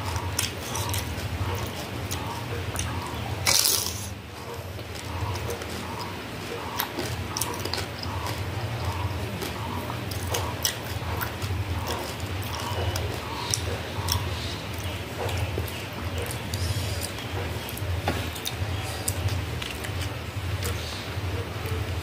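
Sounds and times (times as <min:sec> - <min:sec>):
low steady hum: 0:00.0 - 0:22.0
wet crunchy chewing: 0:00.0 - 0:22.0.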